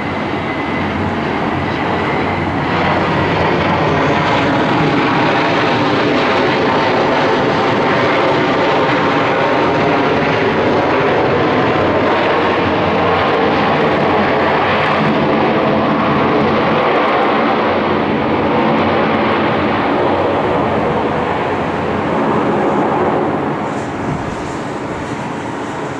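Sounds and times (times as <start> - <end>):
jet engines running: 0.0 - 25.9.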